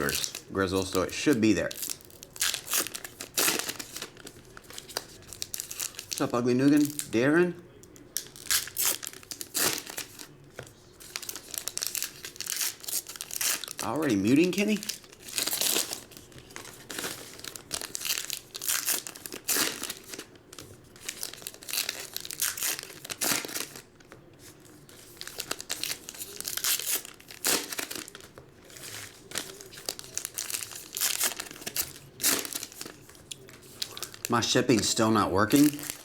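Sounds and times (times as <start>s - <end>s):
card pack wrappers tearing and crinkling: 0.0s - 36.0s.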